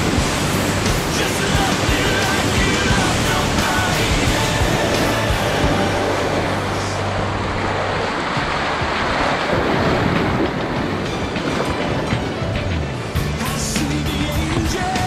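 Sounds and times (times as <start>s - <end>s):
whitewater rushing and splashing: 0.0s - 15.0s.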